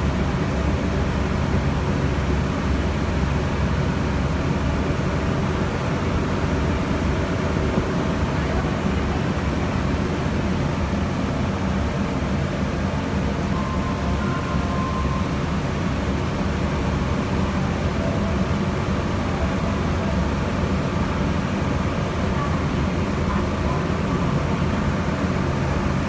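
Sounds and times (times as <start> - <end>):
boat engine drone: 0.0 - 26.0
wind and water rushing: 0.0 - 26.0.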